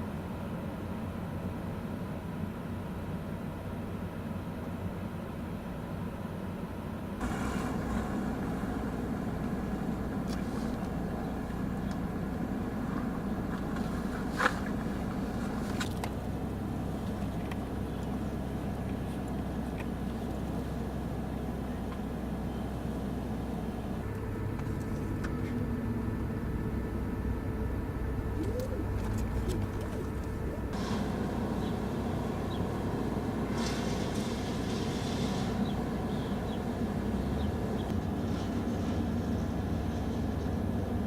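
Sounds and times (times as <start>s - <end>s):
vehicle engine running low: 0.0s - 41.0s.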